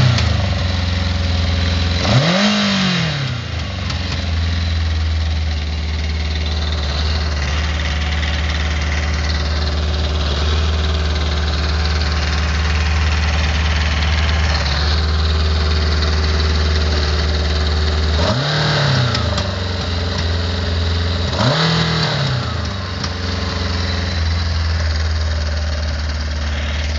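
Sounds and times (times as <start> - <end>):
motorcycle engine idling and revving: 0.0 - 26.9.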